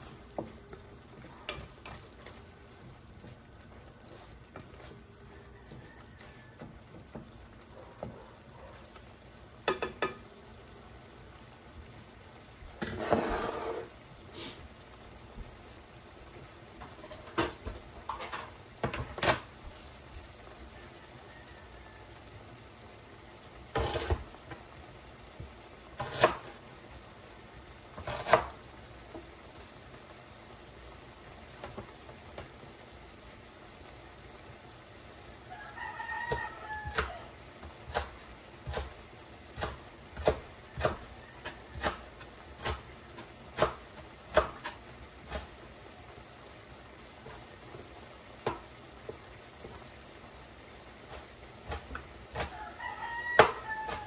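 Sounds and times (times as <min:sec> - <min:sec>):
sauce sizzling with sharp pops: 0:00.0 - 0:54.0.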